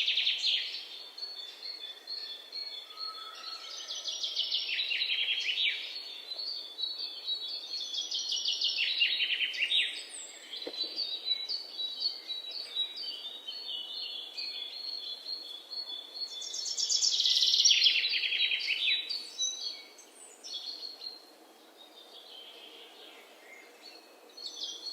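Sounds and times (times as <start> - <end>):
faint outdoor hiss: 0.0 - 24.9
songbirds singing: 0.0 - 24.9.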